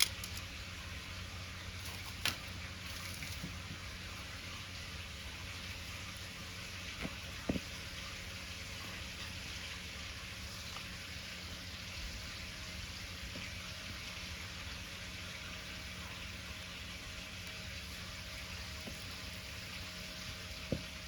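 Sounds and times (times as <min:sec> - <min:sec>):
faint fire crackles: 0:00.0 - 0:21.0.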